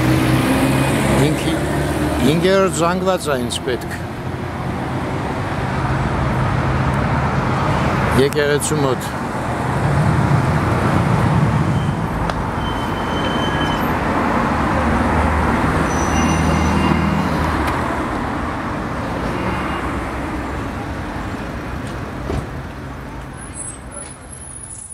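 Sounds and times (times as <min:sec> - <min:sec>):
passing car and bus engines: 0:00.0 - 0:24.9.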